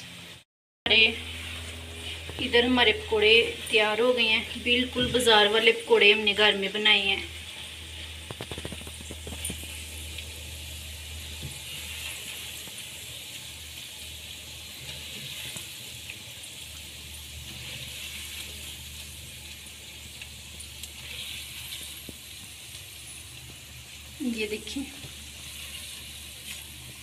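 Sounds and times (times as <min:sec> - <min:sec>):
deep-frying sizzle: 0:00.0 - 0:27.0.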